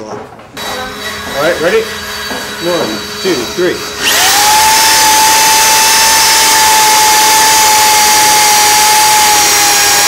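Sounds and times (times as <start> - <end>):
electric drill boring into wood: 0.6 - 10.0.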